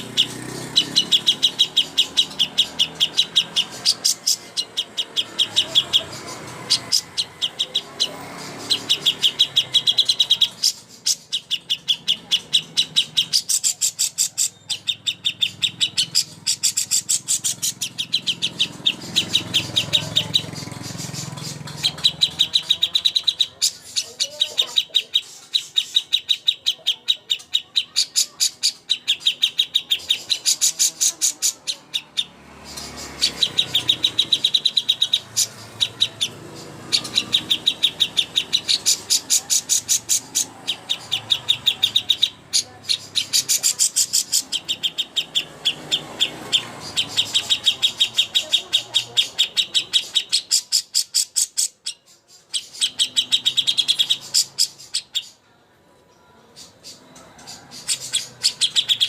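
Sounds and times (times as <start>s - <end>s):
songbird chattering trills: 0.0s - 55.4s, 56.1s - 59.0s.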